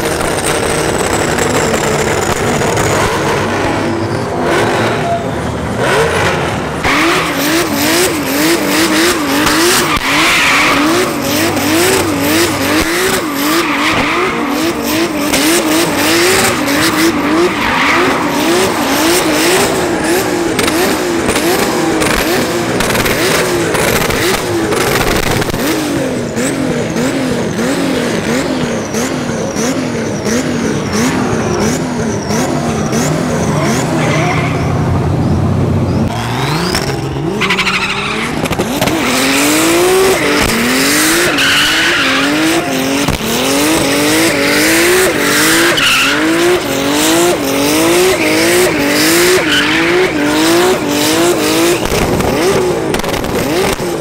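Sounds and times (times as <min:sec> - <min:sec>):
car engine revving: 0:00.0 - 0:54.0
tyres skidding and squealing: 0:00.0 - 0:54.0.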